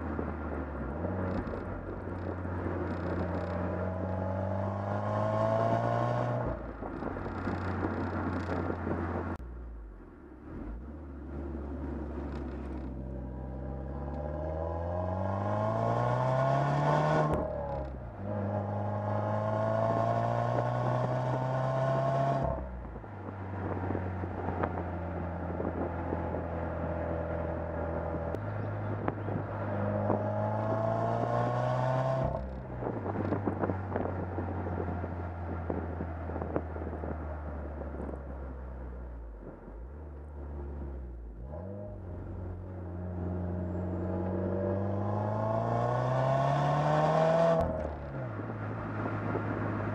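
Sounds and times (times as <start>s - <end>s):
car engine exhaust accelerating: 0.0s - 49.9s.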